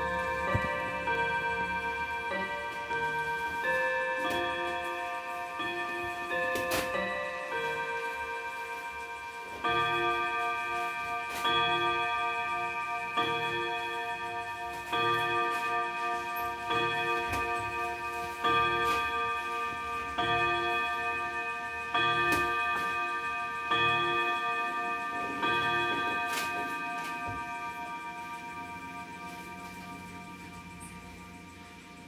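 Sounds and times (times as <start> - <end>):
clock striking the hour on gongs: 0.0 - 32.0
mantel clock chime tune: 0.0 - 32.0.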